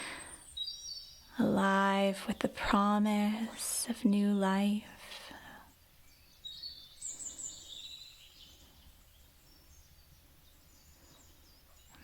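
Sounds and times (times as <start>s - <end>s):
birds chirping and trilling: 0.0s - 3.5s, 5.7s - 12.0s.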